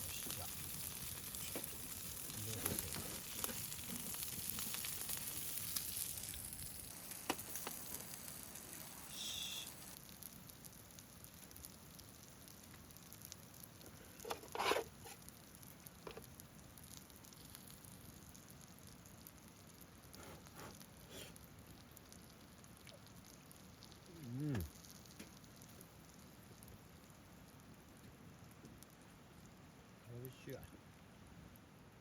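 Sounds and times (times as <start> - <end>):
meat sizzling: 0.0 - 27.4.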